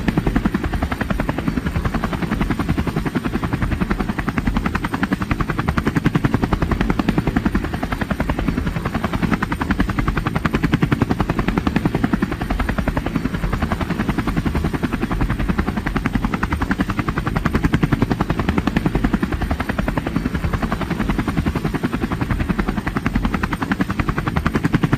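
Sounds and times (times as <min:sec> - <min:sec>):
helicopter rotor chopping: 0:00.0 - 0:24.9.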